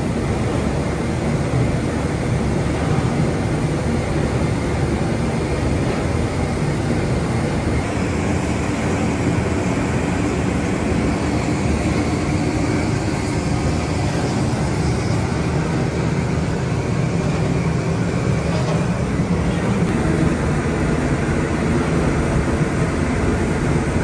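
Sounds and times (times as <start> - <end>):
heavy factory machinery rumbling: 0.0 - 24.0.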